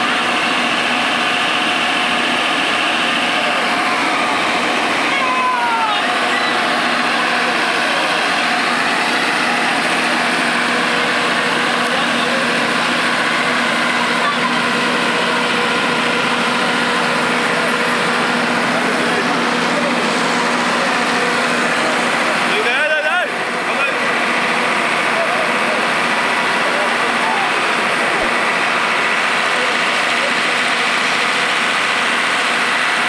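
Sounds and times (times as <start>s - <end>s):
engine-like hum: 0.0s - 33.0s
many overlapping voices: 0.0s - 33.0s.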